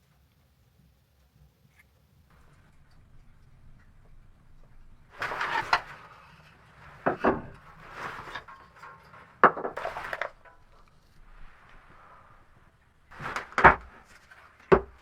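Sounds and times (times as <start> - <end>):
handling noise scraping and rustling: 1.6 - 15.0.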